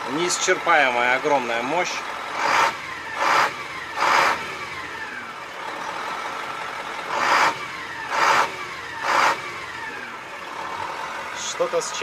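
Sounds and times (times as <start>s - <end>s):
diesel truck engine revving: 0.0s - 12.0s.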